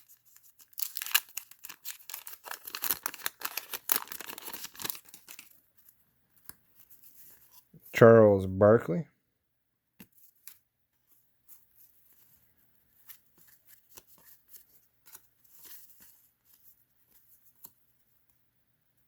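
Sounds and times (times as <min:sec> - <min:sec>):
trading cards being handled: 0:00.0 - 0:07.9, 0:10.0 - 0:18.0.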